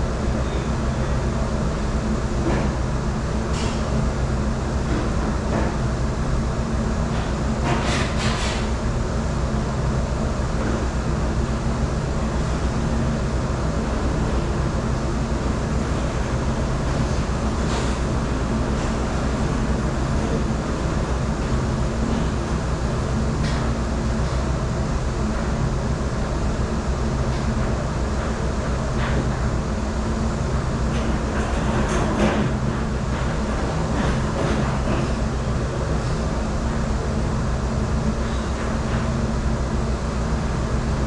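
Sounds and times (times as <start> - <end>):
dishwashing machinery hum: 0.0 - 41.0.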